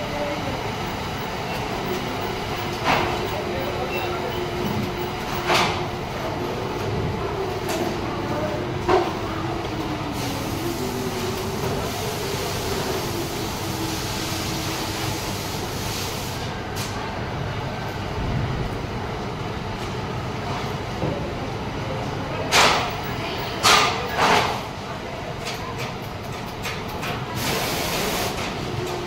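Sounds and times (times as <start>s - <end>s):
factory machinery noise: 0.0s - 29.0s.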